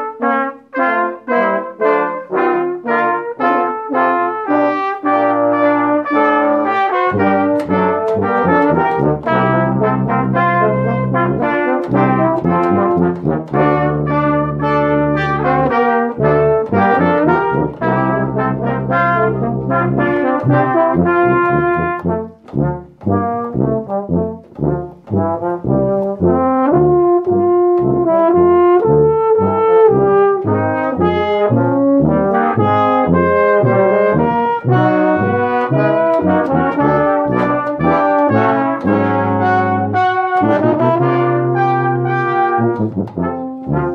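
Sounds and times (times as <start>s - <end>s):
brass ensemble playing: 0.0s - 43.9s.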